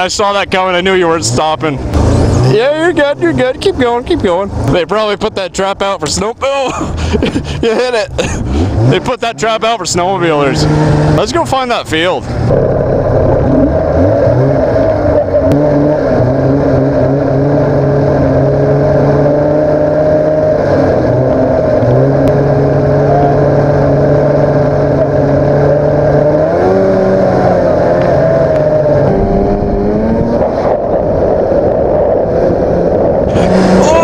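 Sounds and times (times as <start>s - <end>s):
snowmobile engine running: 6.7s - 34.0s.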